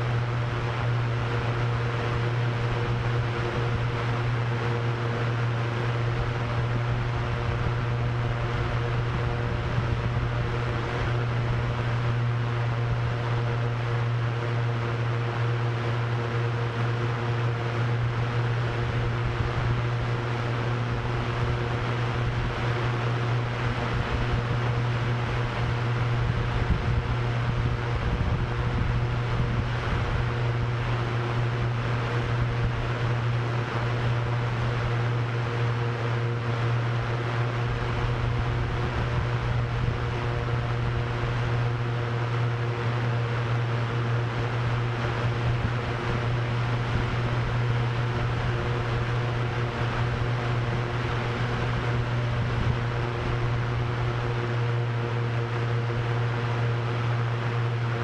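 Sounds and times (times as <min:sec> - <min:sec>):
rushing wind noise: 0:00.0 - 0:14.8, 0:17.7 - 0:56.6
drone propellers humming: 0:00.0 - 0:58.0.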